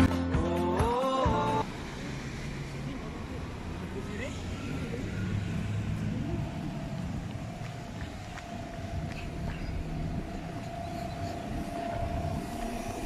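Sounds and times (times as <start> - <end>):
bus engine whine: 0.9 - 13.0
low traffic rumble: 0.9 - 13.0.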